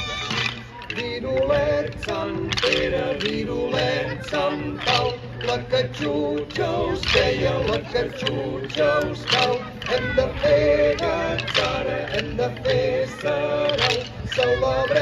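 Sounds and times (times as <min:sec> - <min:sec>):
people singing: 0:00.0 - 0:15.0.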